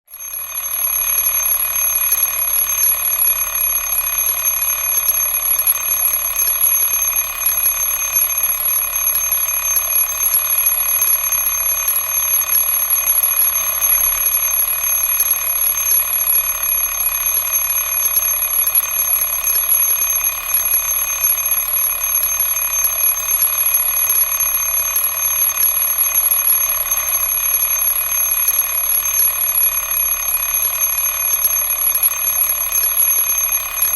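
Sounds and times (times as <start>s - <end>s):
alarm clock ringing: 0.1s - 33.9s.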